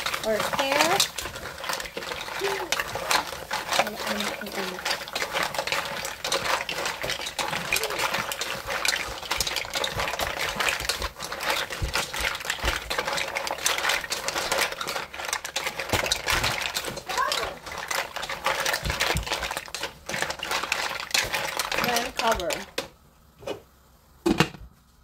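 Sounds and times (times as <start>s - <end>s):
mussel shells clattering in a pot: 0.0s - 22.9s.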